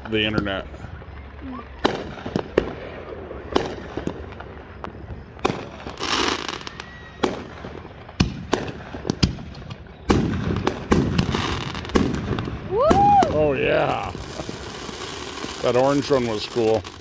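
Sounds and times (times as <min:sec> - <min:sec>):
fireworks bursting with bangs: 0:00.0 - 0:17.0
fireworks crackling: 0:00.0 - 0:17.0.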